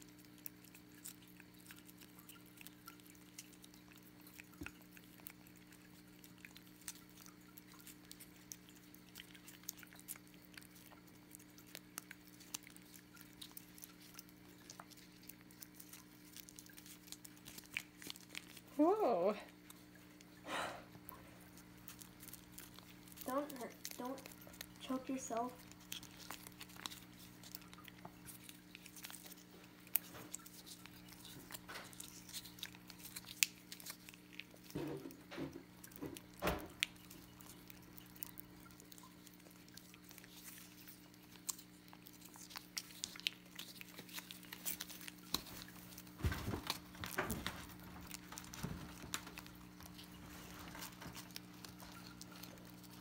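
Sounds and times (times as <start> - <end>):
cat licking a treat: 0.0 - 53.0.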